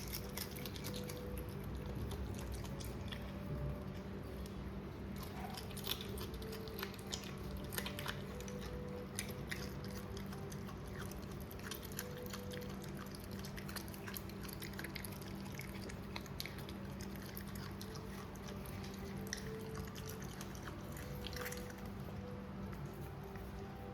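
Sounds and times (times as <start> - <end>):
raccoon chewing and crunching food: 0.0 - 23.9
steady low hum: 0.0 - 23.9.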